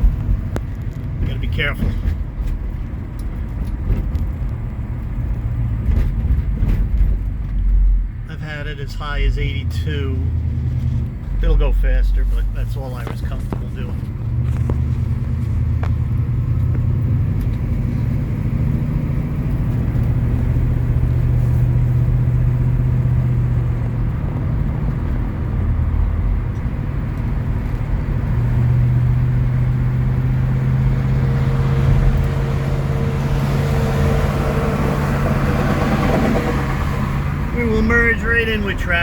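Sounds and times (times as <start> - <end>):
car engine drone: 0.0 - 39.0
road noise: 0.0 - 39.0.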